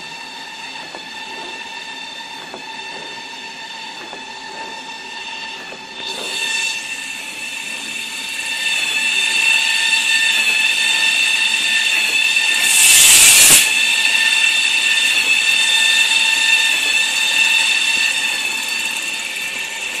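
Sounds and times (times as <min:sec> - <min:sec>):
high-pitched machine whine: 0:00.0 - 0:20.0.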